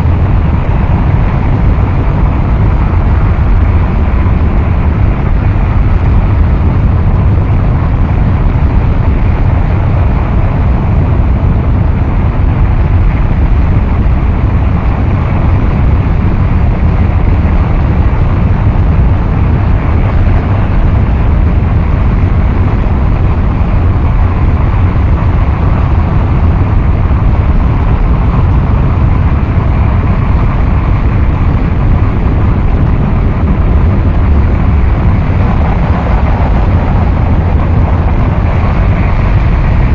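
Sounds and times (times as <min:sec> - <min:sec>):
dense noise music rumble: 0:00.0 - 0:39.9.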